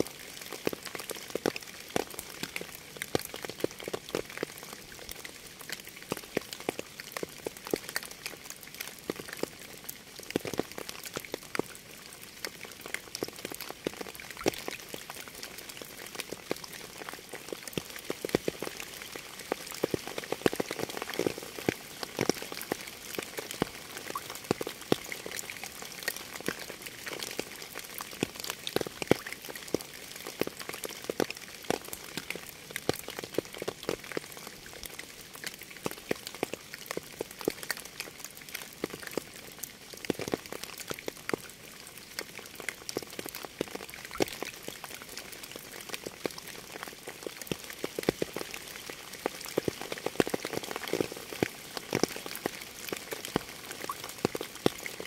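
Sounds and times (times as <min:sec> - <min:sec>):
raindrops striking close by: 0:00.0 - 0:55.0
steady rain falling: 0:00.0 - 0:55.0.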